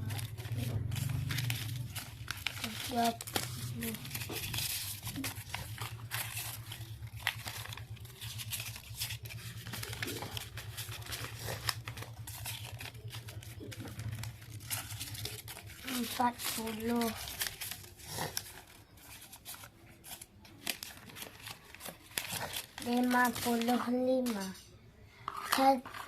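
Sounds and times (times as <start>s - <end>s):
banknotes rustling: 0.0s - 24.6s, 25.2s - 26.0s.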